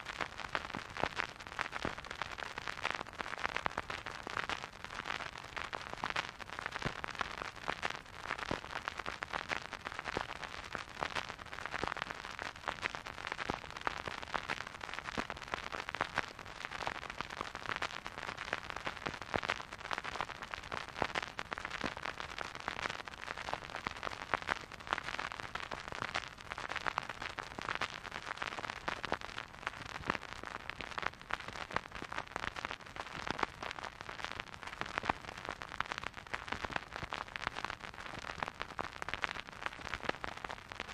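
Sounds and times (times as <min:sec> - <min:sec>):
vinyl record hiss and crackle: 0:00.0 - 0:40.9.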